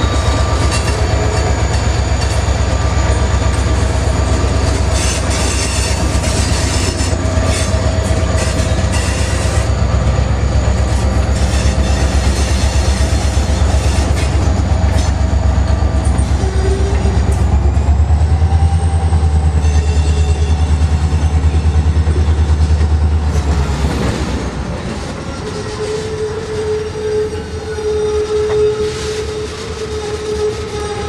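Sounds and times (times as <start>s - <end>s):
diesel locomotive engine pulsing: 0.0s - 31.0s.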